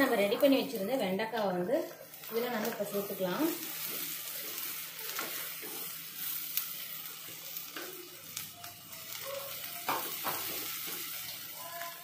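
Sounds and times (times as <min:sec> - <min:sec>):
okra sizzling in hot oil: 0:00.0 - 0:12.0.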